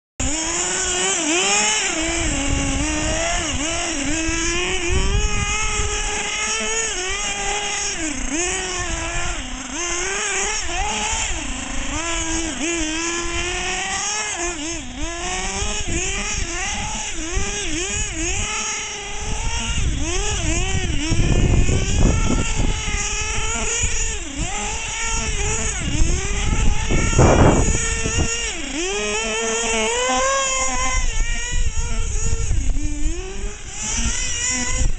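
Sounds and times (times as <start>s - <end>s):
model car engine revving: 0.2s - 34.9s
rushing bursts: 0.2s - 34.9s.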